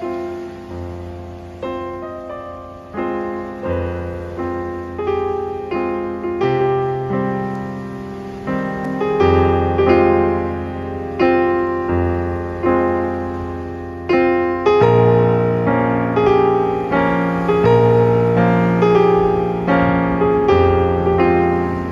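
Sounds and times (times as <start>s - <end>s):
slow piano chords: 0.0s - 21.9s.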